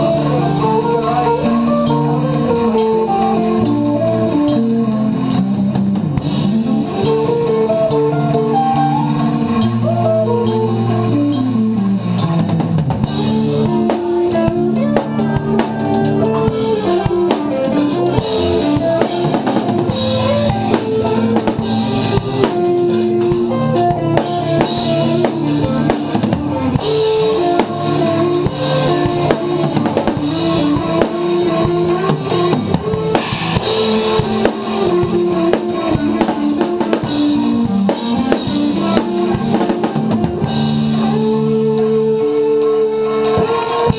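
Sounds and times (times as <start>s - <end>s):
drum kit playing: 0.0s - 43.9s
progressive metal song: 0.0s - 43.9s.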